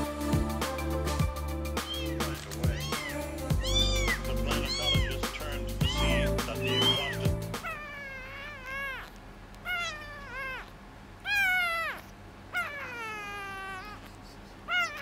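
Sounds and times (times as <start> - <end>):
kitten mewing: 1.8 - 15.0.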